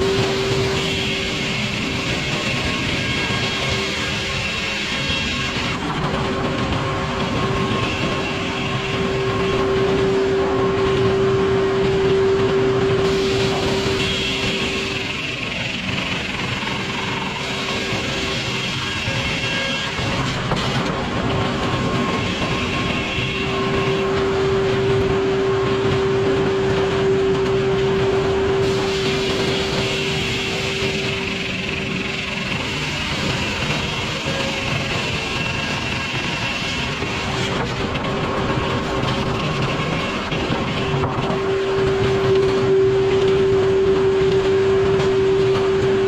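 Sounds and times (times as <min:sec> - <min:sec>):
sawmill saw whining: 0:00.0 - 0:46.0.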